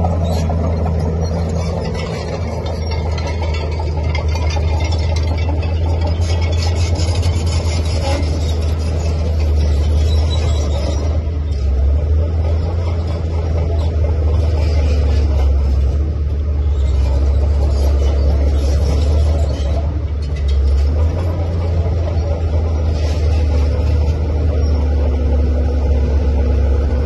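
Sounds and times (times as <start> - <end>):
bulldozer diesel engine rumbling: 0.0 - 27.0.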